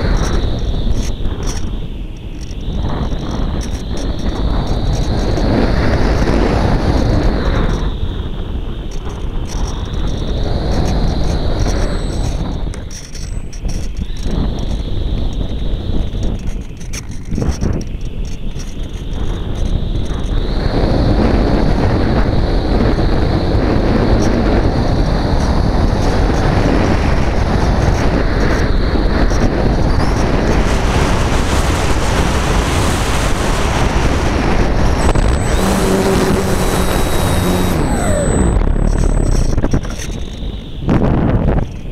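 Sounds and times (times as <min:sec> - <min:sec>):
electric motor whine: 0:00.0 - 0:41.9
wind rushing over microphone: 0:00.0 - 0:41.9.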